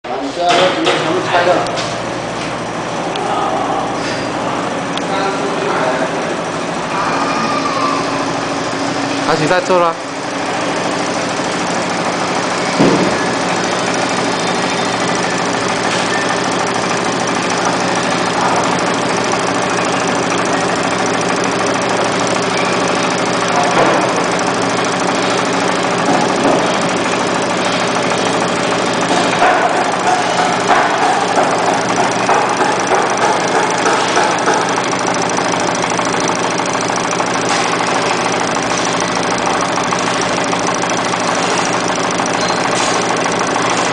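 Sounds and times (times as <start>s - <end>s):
knitting machine whirring: 6.4s - 43.9s.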